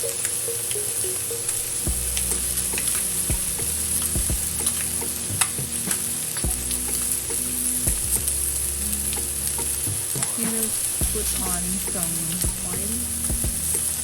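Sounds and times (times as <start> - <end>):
low hum: 1.7 - 14.0.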